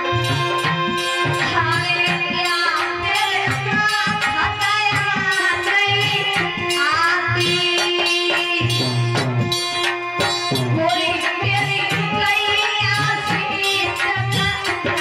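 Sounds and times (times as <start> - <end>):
woman singing through microphone: 0.0 - 9.2, 9.8 - 15.0
rhythmic drum beats: 0.0 - 15.0.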